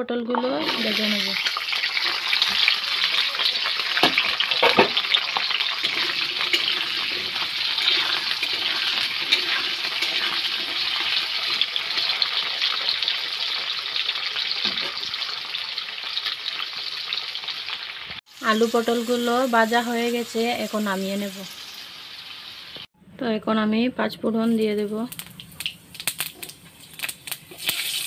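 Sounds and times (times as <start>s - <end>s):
vegetables frying in oil: 0.6s - 22.9s, 24.5s - 28.0s.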